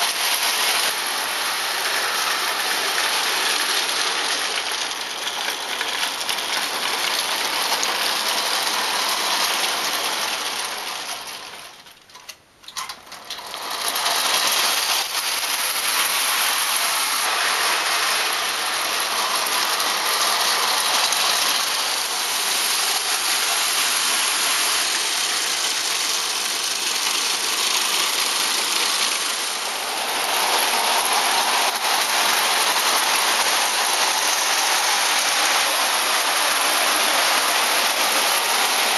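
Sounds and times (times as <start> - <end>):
clockwork motor whirring rattle: 0.0 - 38.9
toy train wheels clattering: 0.0 - 38.9.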